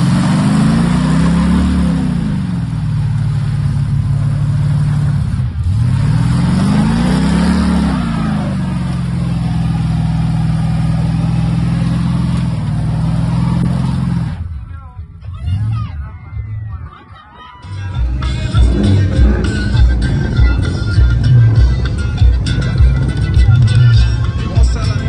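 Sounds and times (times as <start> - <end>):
engine revving: 0.0 - 14.5, 17.7 - 25.0.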